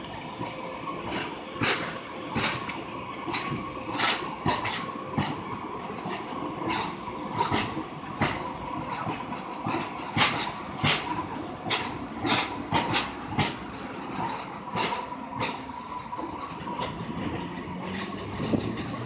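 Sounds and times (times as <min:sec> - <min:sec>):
steady train hum: 0:00.0 - 0:19.0
train wheels knocking on track: 0:00.0 - 0:19.0.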